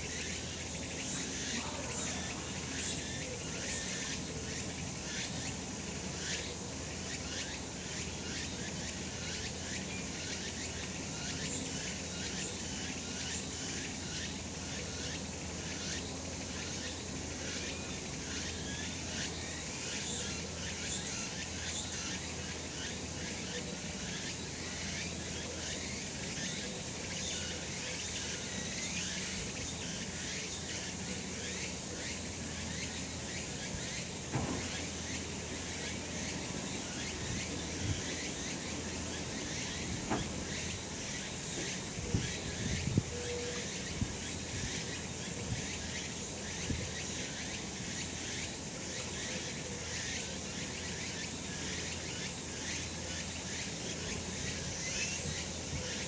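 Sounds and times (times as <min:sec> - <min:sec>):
cicadas chorus: 0:00.0 - 0:56.0.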